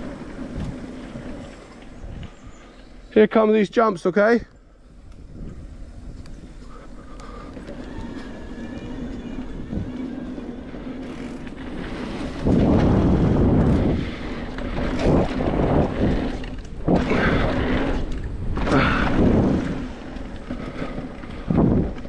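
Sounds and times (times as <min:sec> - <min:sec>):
wind buffeting microphone: 0:00.0 - 0:03.1, 0:04.8 - 0:22.0
bike tyre noise: 0:00.0 - 0:22.0.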